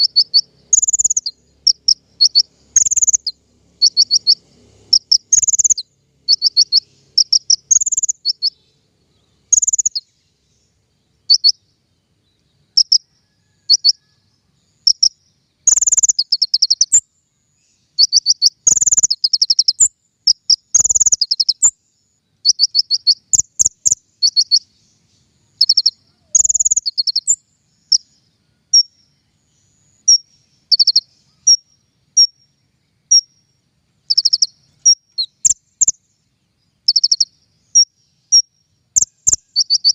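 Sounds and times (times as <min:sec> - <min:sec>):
songbird high rapid trills: 0:00.0 - 0:39.9.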